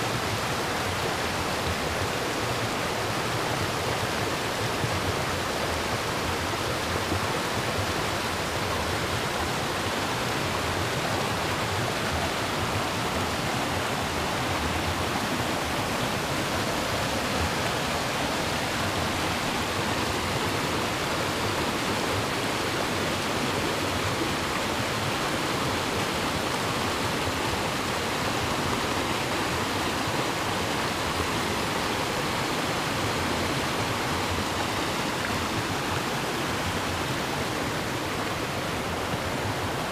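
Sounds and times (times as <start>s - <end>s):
creek rushing over boulders: 0.0s - 39.9s.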